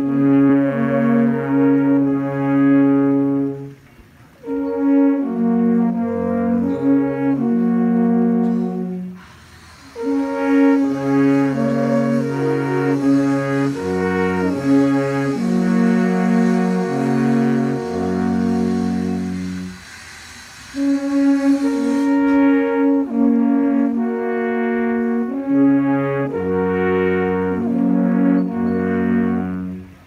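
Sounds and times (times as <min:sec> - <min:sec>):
alphorns playing chords: 0:00.0 - 0:09.3, 0:10.0 - 0:19.9, 0:20.7 - 0:30.0.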